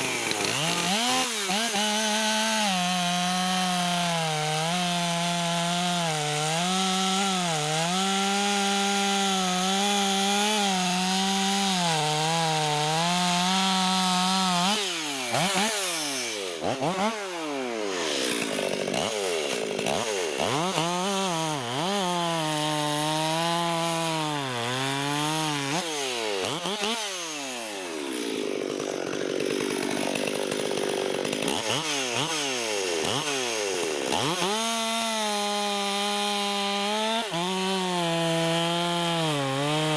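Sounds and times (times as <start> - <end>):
chainsaw throttle blips: 0.0 - 2.7, 7.7 - 39.9
chainsaw cutting wood: 0.0 - 39.9.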